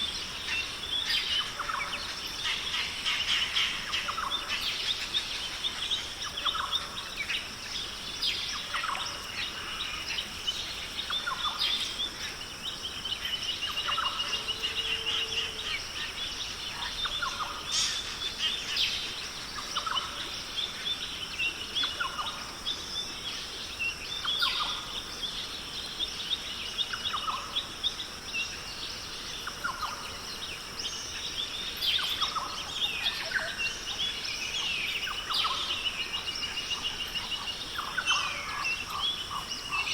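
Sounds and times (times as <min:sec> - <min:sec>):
birds calling: 0:00.0 - 0:39.9
high insect drone: 0:00.0 - 0:39.9.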